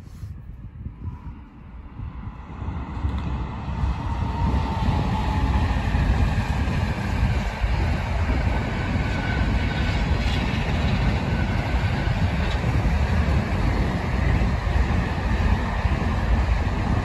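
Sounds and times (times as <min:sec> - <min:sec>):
freight train rumbling past: 0:01.4 - 0:17.0.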